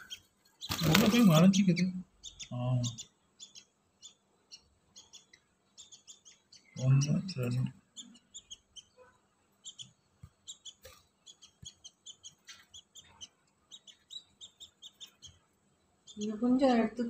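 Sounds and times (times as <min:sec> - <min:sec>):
budgerigars chirping: 0:00.0 - 0:17.0.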